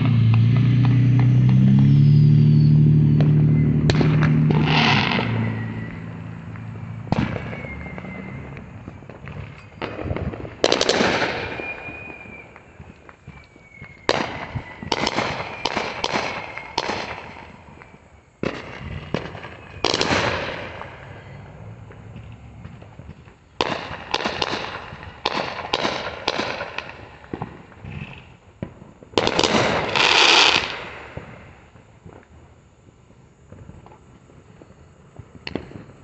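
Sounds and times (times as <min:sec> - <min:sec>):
firework crackling: 0:00.0 - 0:36.0
fireworks bangs echoing: 0:00.0 - 0:36.0.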